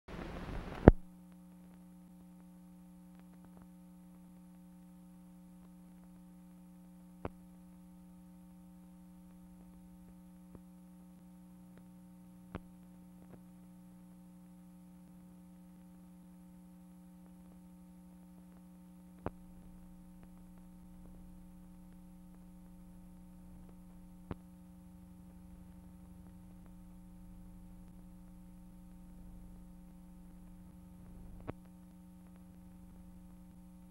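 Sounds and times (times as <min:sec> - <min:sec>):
electrical hum: 0:00.1 - 0:33.9.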